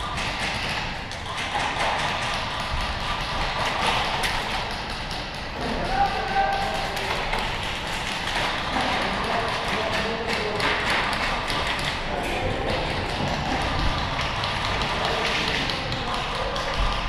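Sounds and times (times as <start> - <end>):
distant echoing voices: 0.0 - 17.0.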